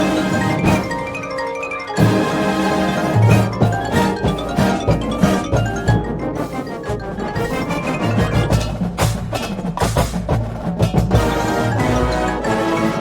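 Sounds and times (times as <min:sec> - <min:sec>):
drum and bugle corps playing: 0:00.0 - 0:13.0.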